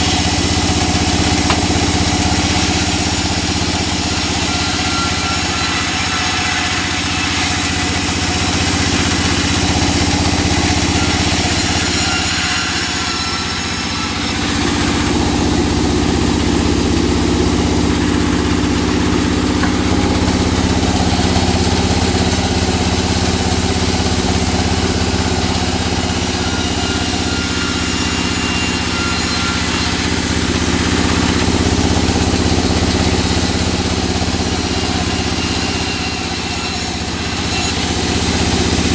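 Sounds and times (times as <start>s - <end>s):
engine-powered saw sawing wood: 0.0s - 38.9s.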